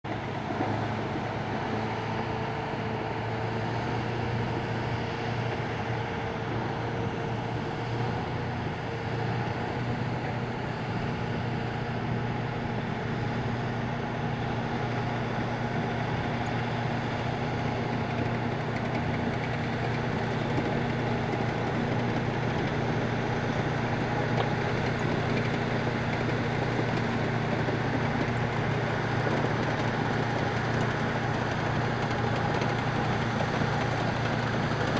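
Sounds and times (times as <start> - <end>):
vehicle engine drone under load: 0.0 - 34.9.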